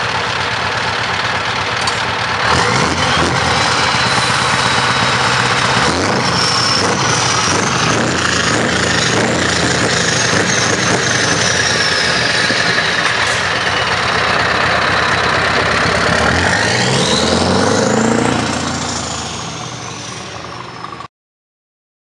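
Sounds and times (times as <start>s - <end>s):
loud truck engine revving: 1.6s - 21.1s.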